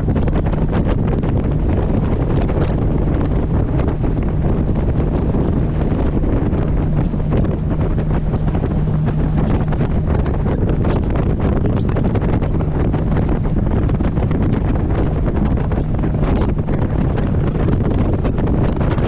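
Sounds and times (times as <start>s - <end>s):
boat engine drone: 0.0s - 19.0s
water splashing against hull: 0.0s - 19.0s
wind buffeting microphone: 0.0s - 19.0s.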